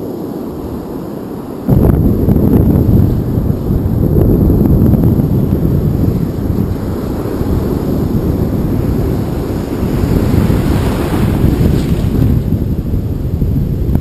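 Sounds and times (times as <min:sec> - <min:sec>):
breaking surf: 0:00.0 - 0:14.0
wind buffeting microphone: 0:00.0 - 0:14.0.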